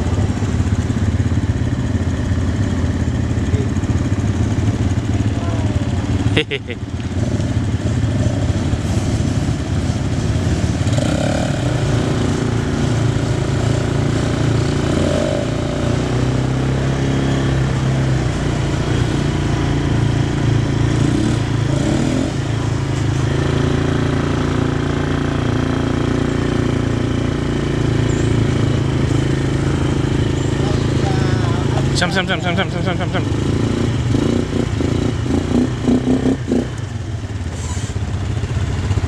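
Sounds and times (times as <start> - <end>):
quad bike engines running: 0.0 - 39.0.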